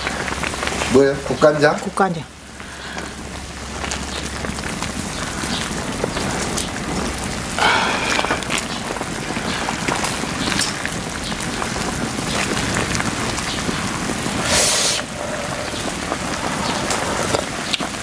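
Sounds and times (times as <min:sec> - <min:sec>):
pot of soup boiling: 0:00.0 - 0:18.0
wood fire crackling: 0:00.0 - 0:18.0.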